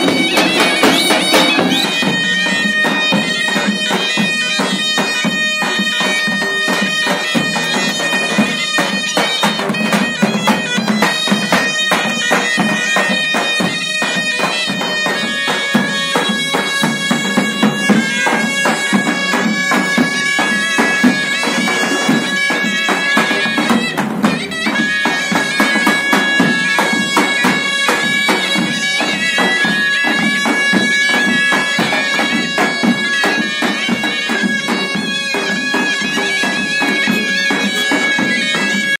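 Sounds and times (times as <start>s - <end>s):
shrill double-reed melody: 0.0s - 39.0s.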